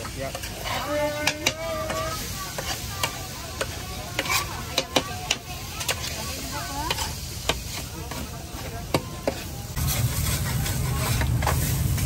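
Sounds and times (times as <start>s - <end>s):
food sizzling on griddle: 0.0s - 12.0s
metal spatula clacking and scraping: 0.0s - 12.0s.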